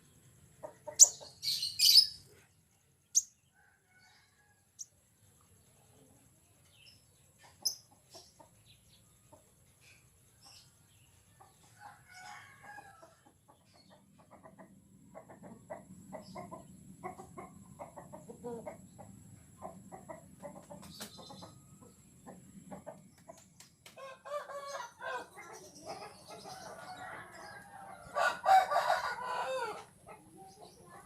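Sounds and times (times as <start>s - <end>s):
birds clucking calls: 0.0s - 3.6s, 6.7s - 31.0s.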